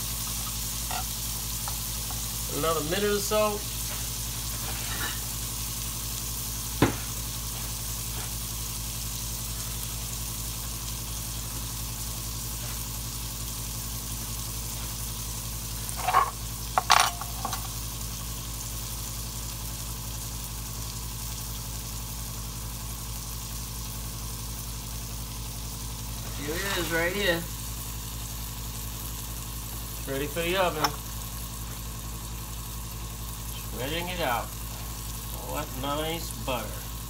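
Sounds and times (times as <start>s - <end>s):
steaks sizzling in a skillet: 0.0s - 37.0s.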